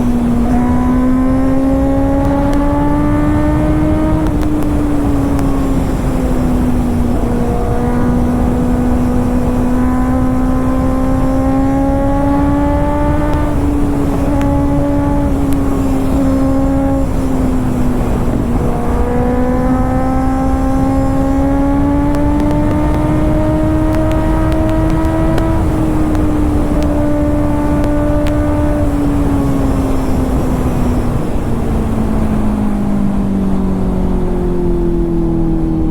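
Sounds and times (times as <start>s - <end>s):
motorcycle engine under throttle: 0.0s - 35.9s.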